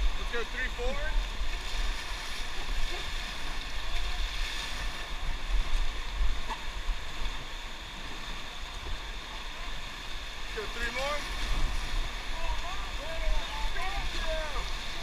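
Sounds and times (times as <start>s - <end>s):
water rushing: 0.0s - 15.0s
wind rumbling on microphone: 0.0s - 15.0s.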